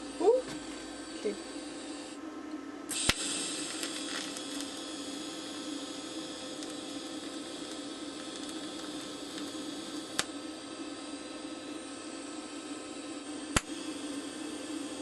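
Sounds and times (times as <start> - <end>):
welding arc hissing: 2.9 - 15.0.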